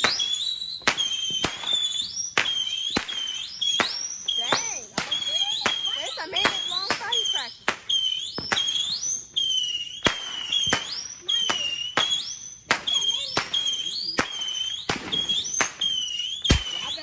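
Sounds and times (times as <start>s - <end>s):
fireworks cracking: 0.0s - 17.0s
fireworks whistling upward: 0.0s - 17.0s.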